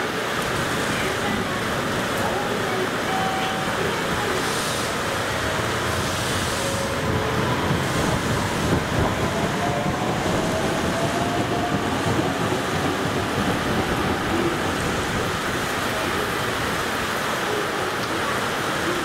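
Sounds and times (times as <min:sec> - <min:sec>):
electric train pulling out: 0:00.0 - 0:18.8
storm wind and rain: 0:00.0 - 0:19.0.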